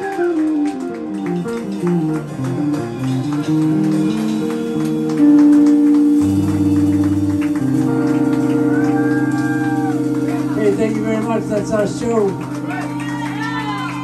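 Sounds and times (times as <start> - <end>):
electric guitar notes and chords: 0.0 - 14.0.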